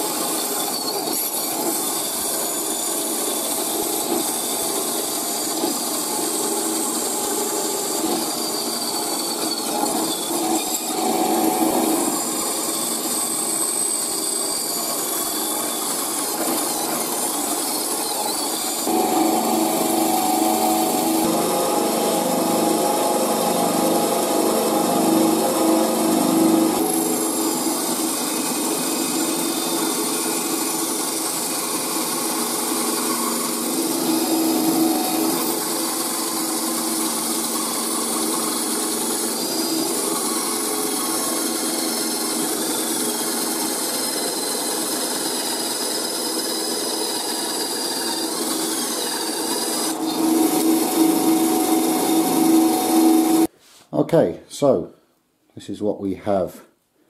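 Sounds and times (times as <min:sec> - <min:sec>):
bandsaw motor hum: 0:00.0 - 0:53.5
saw blade cutting wood: 0:00.0 - 0:53.5.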